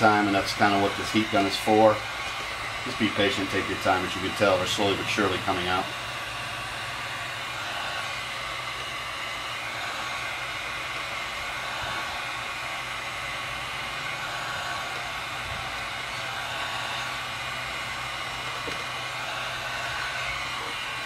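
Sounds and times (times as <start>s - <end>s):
heat gun blowing air: 0.0s - 21.0s.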